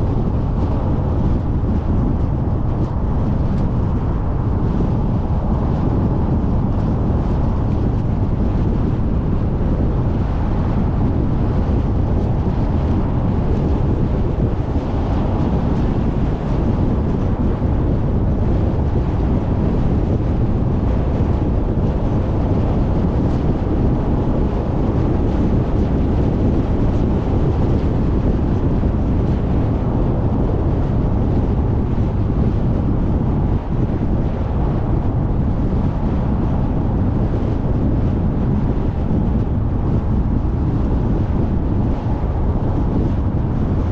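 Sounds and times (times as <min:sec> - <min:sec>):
car road and wind noise: 0:00.0 - 0:43.9.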